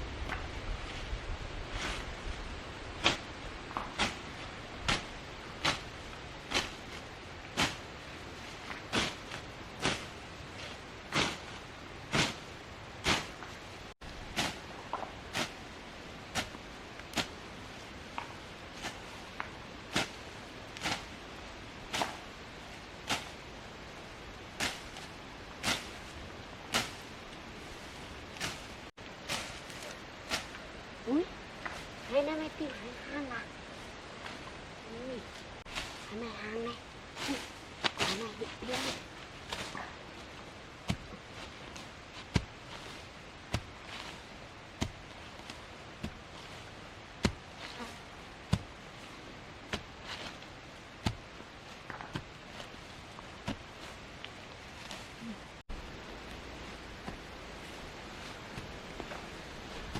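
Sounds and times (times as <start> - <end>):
quiet hiss: 0.0 - 59.9.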